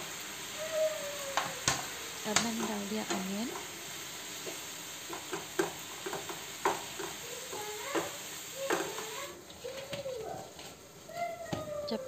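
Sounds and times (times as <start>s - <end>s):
onions sizzling in a frying pan: 0.0s - 12.0s.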